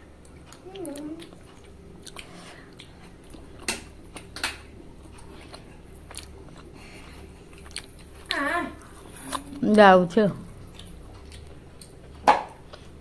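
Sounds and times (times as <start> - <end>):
child chewing: 0.0 - 13.0.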